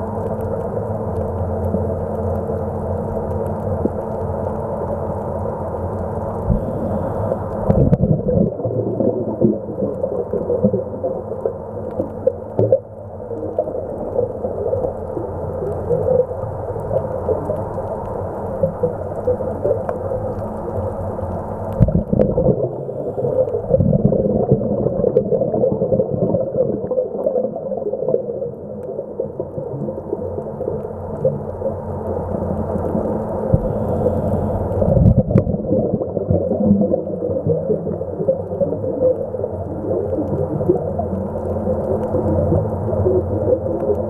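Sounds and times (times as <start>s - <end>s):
muffled underwater rumble: 0.0s - 44.0s
faint clicks: 0.1s - 25.3s, 28.0s - 36.1s, 36.7s - 44.0s.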